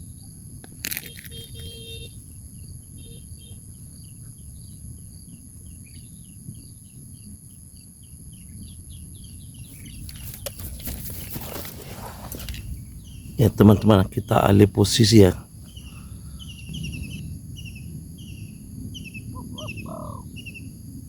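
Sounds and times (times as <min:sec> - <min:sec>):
high insect whine: 0:00.0 - 0:21.0
songbird chirping: 0:00.0 - 0:21.0.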